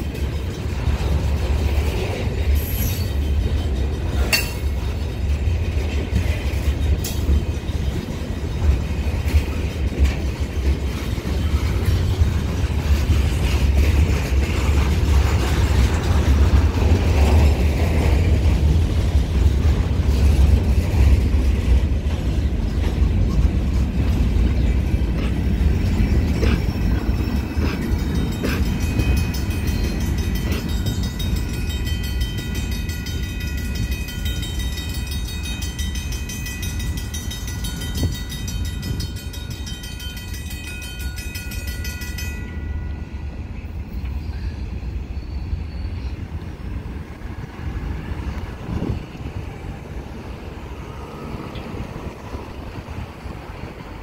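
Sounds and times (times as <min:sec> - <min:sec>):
train wheel clacks: 0:00.0 - 0:44.3
crossing warning bell ringing: 0:00.0 - 0:54.0
freight train rumbling past: 0:00.0 - 0:54.0.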